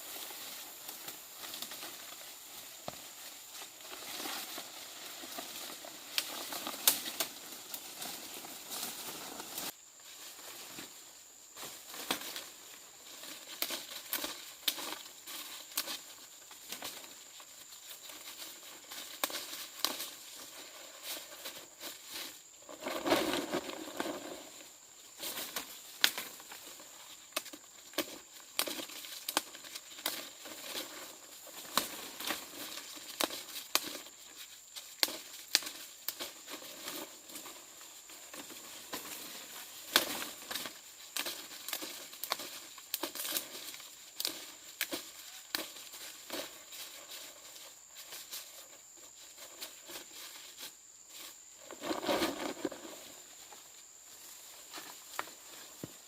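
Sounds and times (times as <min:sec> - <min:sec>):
crinkling and rustling: 0:00.0 - 0:56.0.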